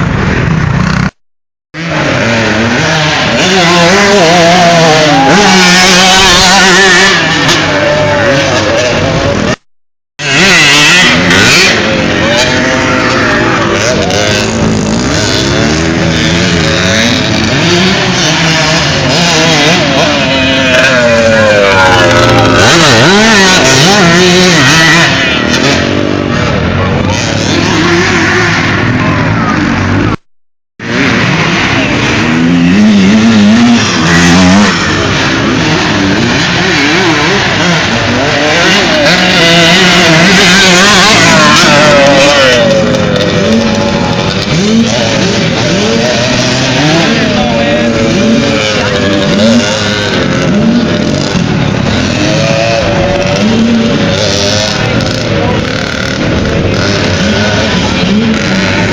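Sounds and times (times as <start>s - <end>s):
motocross bikes revving past: 0.0s - 1.2s, 1.8s - 9.6s, 10.2s - 30.2s, 30.8s - 58.9s.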